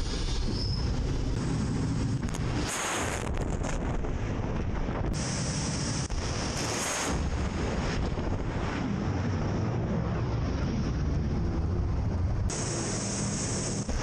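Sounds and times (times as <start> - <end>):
heavy rumble: 0.0 - 14.0
wind buffeting microphone: 0.0 - 14.0.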